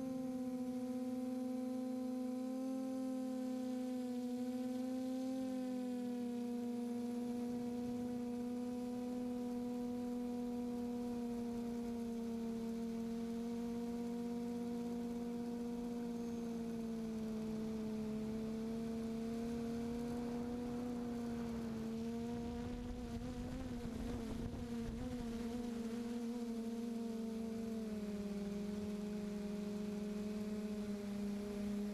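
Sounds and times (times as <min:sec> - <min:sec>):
drone motors humming: 0:00.0 - 0:31.9.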